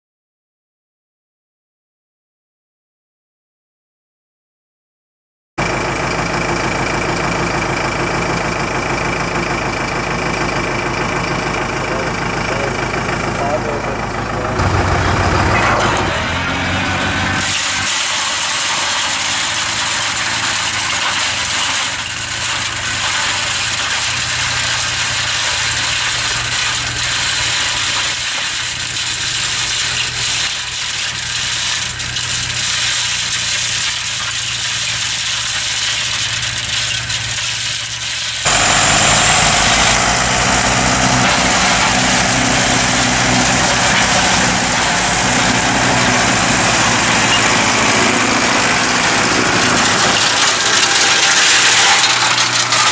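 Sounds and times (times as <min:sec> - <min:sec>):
flail mulcher working: 0:05.6 - 0:52.9
tractor engine running: 0:05.6 - 0:52.9.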